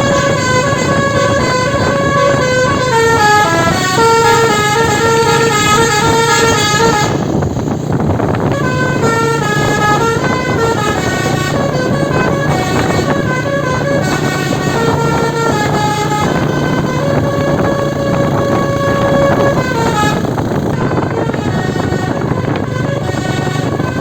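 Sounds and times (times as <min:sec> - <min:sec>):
multi-tone bus horn melody: 0:00.0 - 0:24.0
steady low hum: 0:00.0 - 0:24.0.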